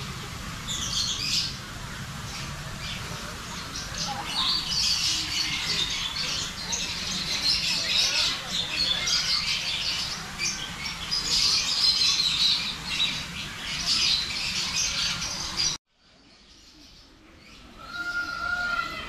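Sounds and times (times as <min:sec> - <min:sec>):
birds chirping in chorus: 0:00.0 - 0:19.0.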